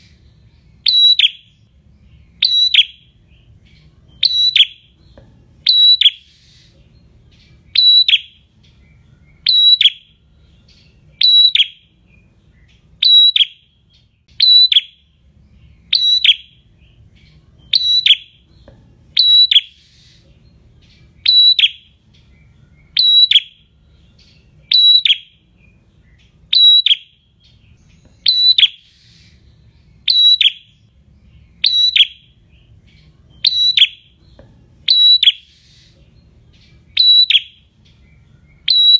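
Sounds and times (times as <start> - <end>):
songbird calling high-pitched note: 0.0 - 5.0, 5.6 - 18.5, 19.1 - 22.0, 22.6 - 38.9.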